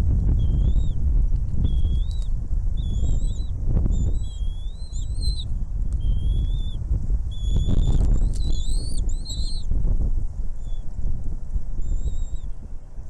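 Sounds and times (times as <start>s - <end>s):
loud low rumble: 0.0s - 11.8s
small birds whistling: 0.3s - 9.8s, 10.4s - 13.0s.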